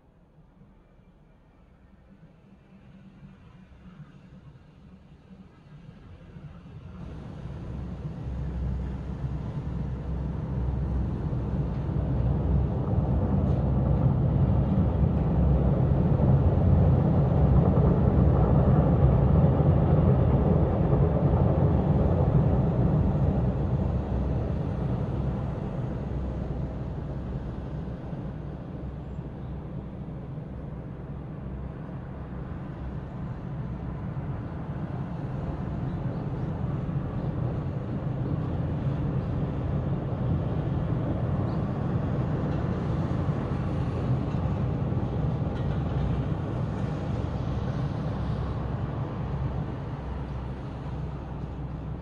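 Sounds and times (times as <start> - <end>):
town traffic rumble: 6.9 - 52.0.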